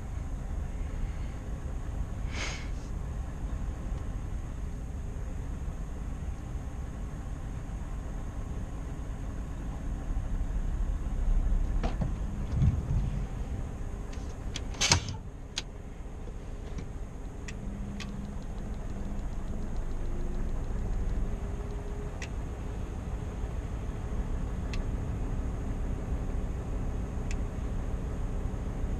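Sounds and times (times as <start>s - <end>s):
road noise: 0.0s - 28.9s
truck engine rumble: 0.0s - 28.9s.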